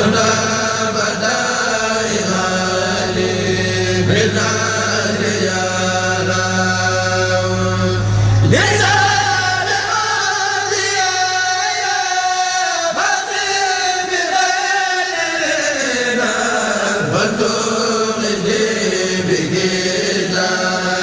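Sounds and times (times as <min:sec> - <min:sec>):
male voices chanting: 0:00.0 - 0:21.0.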